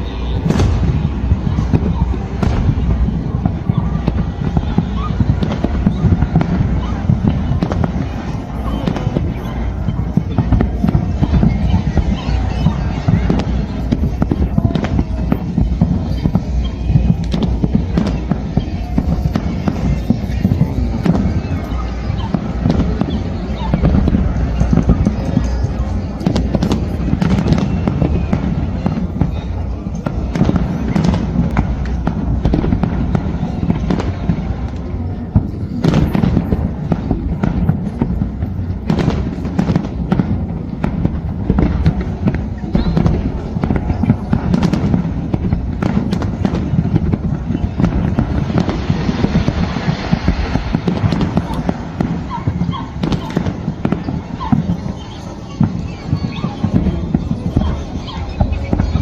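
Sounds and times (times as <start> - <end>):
fireworks bangs and cracks: 0.0 - 59.0.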